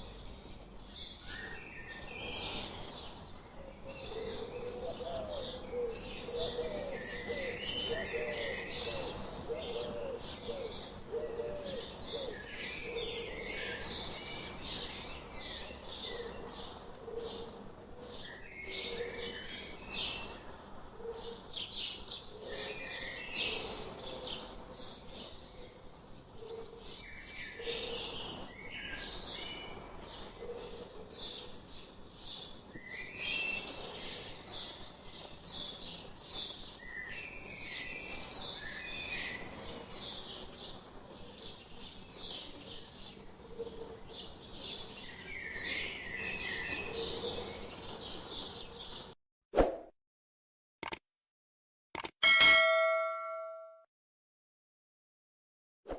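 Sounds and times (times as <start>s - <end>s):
birds chirping and twittering: 0.0s - 49.2s.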